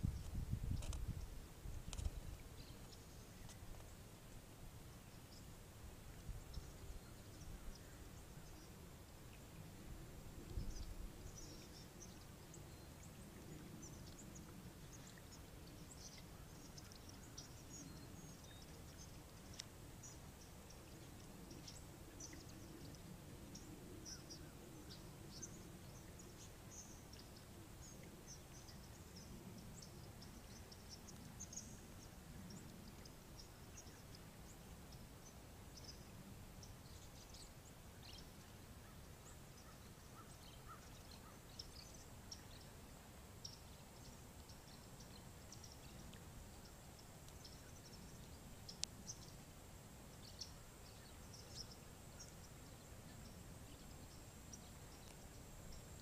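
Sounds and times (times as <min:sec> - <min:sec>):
flock of birds chirping: 0:06.2 - 0:42.8, 0:43.4 - 0:49.5, 0:50.1 - 0:56.0.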